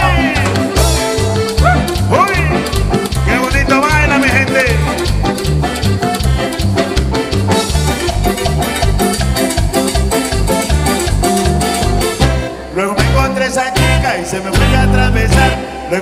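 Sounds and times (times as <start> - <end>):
live latin dance band: 0.0 - 16.0.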